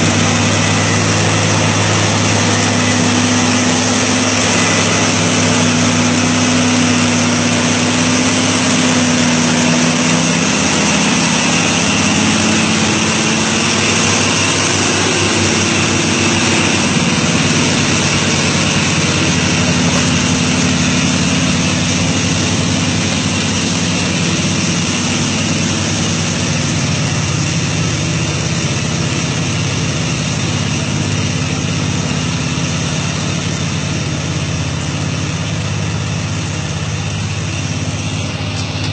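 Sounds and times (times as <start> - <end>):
heavy diesel truck engine: 0.0 - 38.9.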